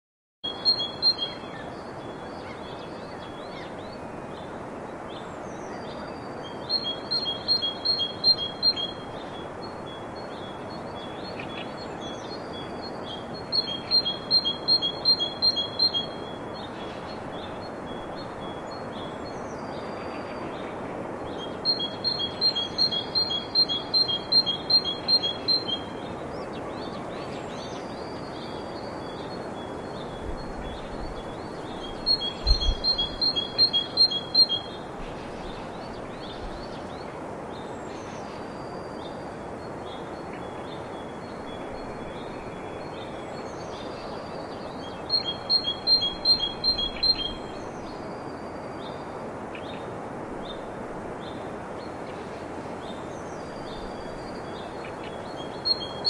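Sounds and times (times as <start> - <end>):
songbird calls: 0.4 - 4.6, 5.2 - 56.0
steady background hiss: 0.4 - 56.0.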